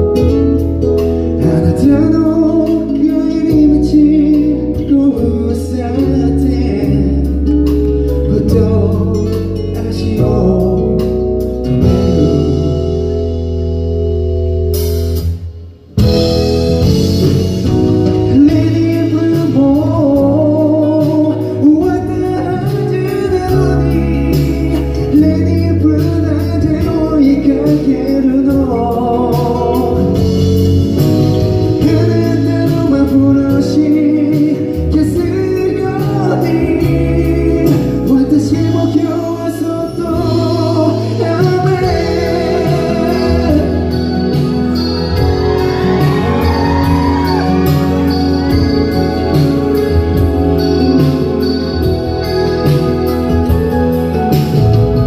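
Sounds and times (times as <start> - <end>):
instrumental accompaniment: 0.0 - 55.0
man singing into microphone: 1.4 - 13.3, 18.0 - 50.4.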